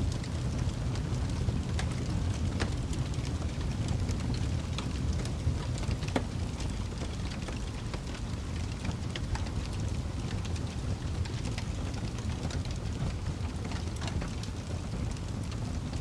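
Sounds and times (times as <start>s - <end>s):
fire popping and snapping: 0.0s - 16.0s
fire rumbling: 0.0s - 16.0s.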